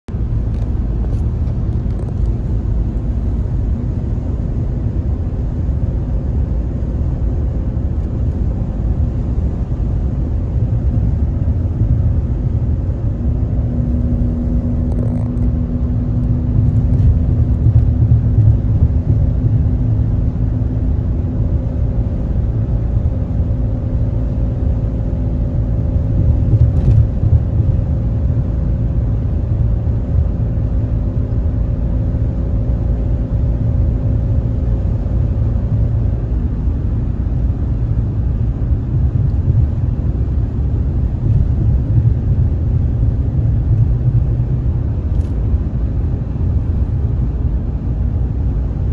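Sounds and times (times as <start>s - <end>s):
car cabin road noise: 0.1s - 48.9s.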